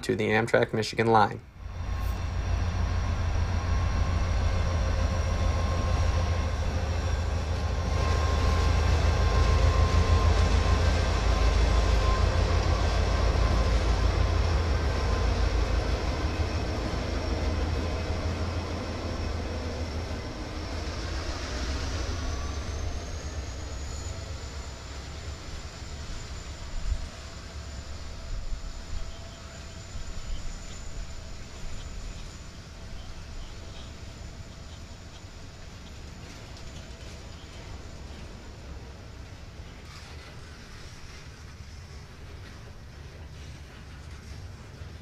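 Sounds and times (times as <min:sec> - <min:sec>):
diesel locomotive engines rumbling: 0:00.0 - 0:45.0
freight cars rolling on rails: 0:01.6 - 0:45.0.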